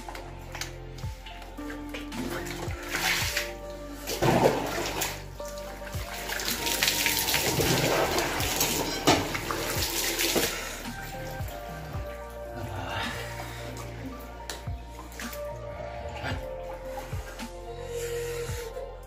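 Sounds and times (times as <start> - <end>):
water splashing on floor: 0.0 - 15.8
music: 0.0 - 19.0.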